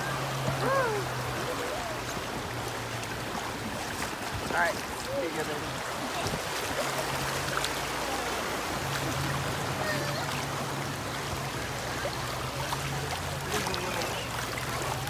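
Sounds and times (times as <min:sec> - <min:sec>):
river water rushing over rapids: 0:00.0 - 0:15.0.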